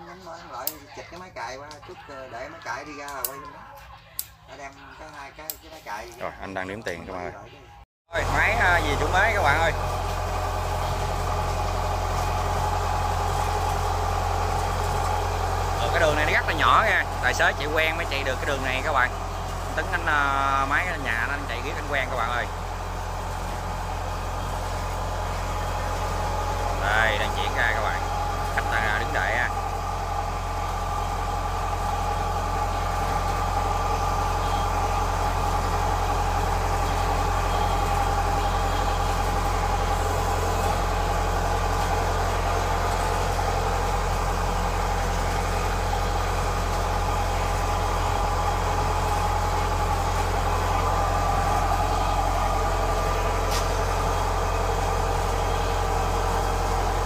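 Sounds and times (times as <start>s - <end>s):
diesel engine idling: 8.1s - 57.0s.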